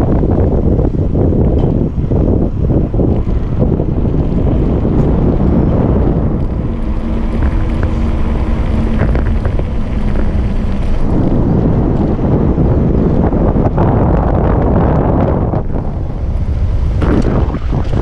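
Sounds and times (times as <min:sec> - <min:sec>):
bike tyre rumble on concrete: 0:00.0 - 0:18.0
wind buffeting microphone: 0:00.0 - 0:18.0.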